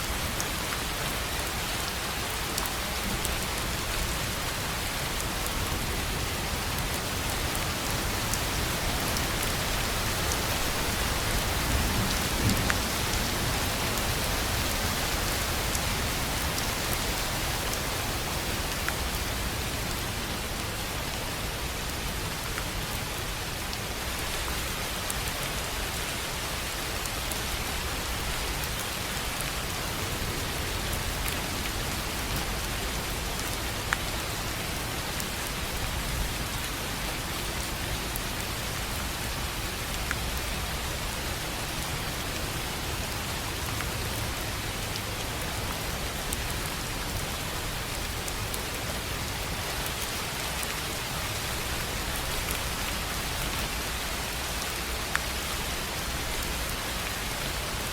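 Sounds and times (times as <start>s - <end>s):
rain on a tin roof: 0.0s - 57.9s.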